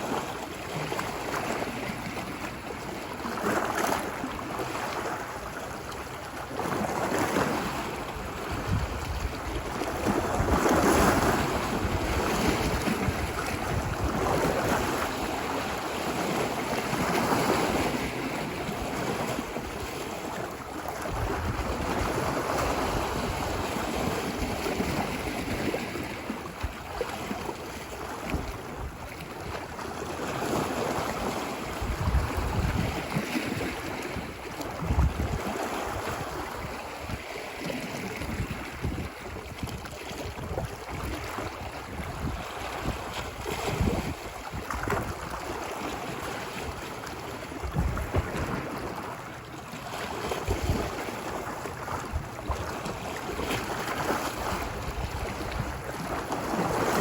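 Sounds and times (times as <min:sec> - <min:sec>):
ocean surf washing ashore: 0:00.0 - 0:57.0
wind buffeting microphone: 0:06.7 - 0:27.1, 0:30.5 - 0:49.0, 0:50.1 - 0:57.0.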